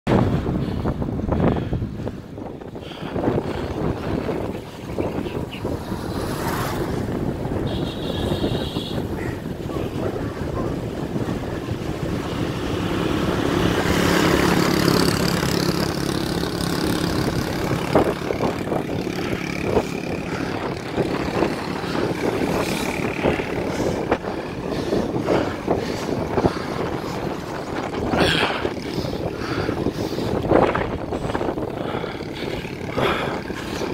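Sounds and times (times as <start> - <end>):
wind rushing over microphone: 0.1 - 33.9.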